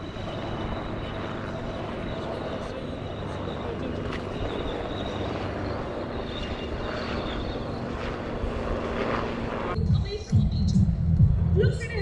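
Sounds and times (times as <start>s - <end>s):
helicopter rotor noise: 0.0s - 12.0s
high turbine whine: 0.0s - 12.0s.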